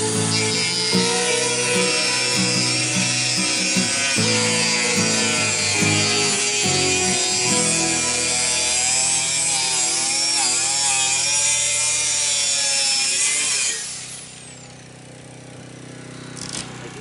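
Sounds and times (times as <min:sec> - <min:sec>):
circular saw cutting wood: 0:00.0 - 0:15.5.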